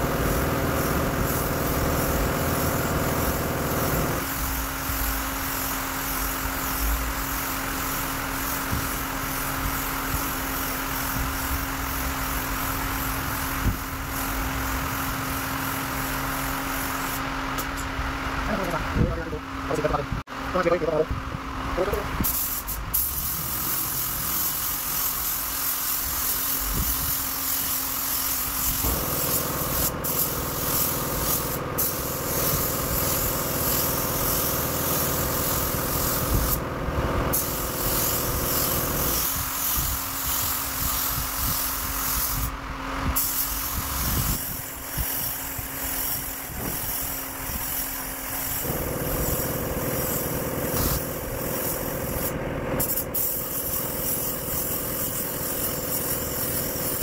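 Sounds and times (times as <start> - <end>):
paint spray gun hissing: 0.0 - 17.7, 22.2 - 57.0.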